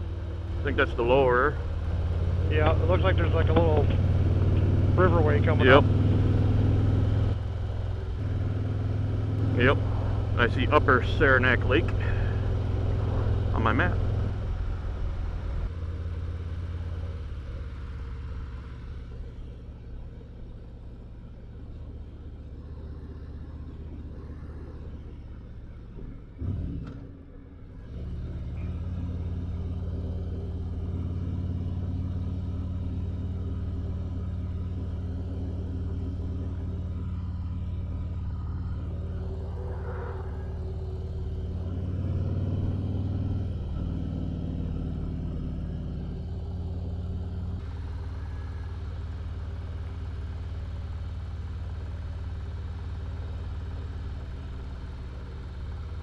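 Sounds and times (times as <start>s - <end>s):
motorcycle engine drone: 0.0s - 56.0s
wind and road noise: 0.0s - 56.0s.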